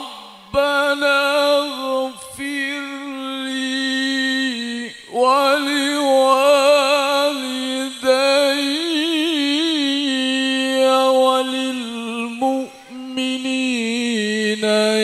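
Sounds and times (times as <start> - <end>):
man reciting melodically into microphone: 0.0 - 15.0.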